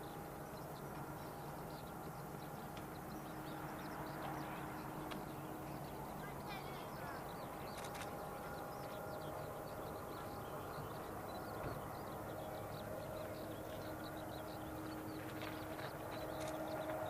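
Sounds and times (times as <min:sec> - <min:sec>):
distant jet engines whining: 0:00.0 - 0:17.0
small birds chirping: 0:00.0 - 0:17.0.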